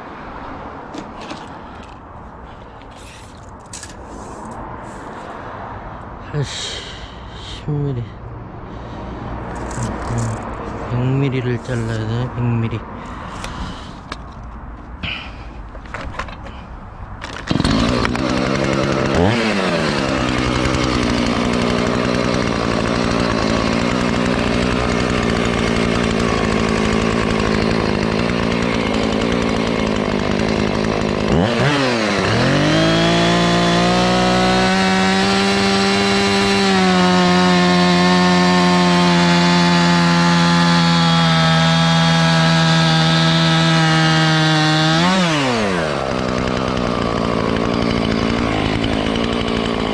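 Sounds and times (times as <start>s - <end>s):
chainsaw cutting log: 2.8s - 5.4s, 9.4s - 15.2s, 17.2s - 49.9s.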